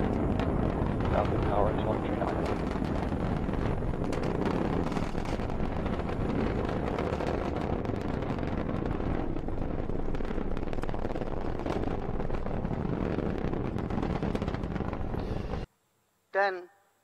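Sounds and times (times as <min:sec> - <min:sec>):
rocket engines rumbling and crackling: 0:00.0 - 0:15.7.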